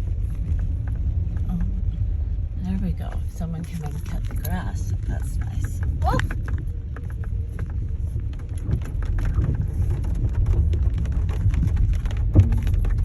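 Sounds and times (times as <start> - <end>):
car driving on wet dirt: 0.0 - 13.0
raindrops pattering on car roof: 0.0 - 13.0.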